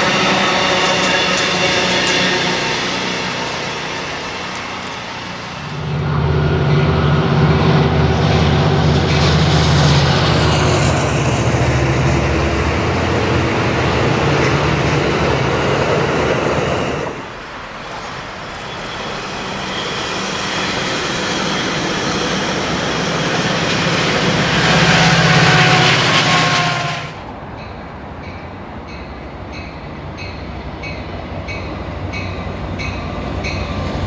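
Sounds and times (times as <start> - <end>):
train passing: 0.0 - 34.0.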